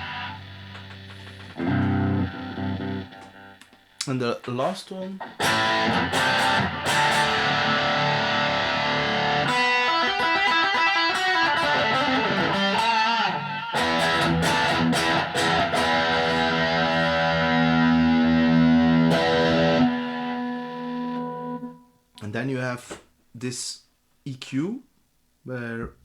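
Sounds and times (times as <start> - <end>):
distorted electric guitar: 0.0 - 21.9.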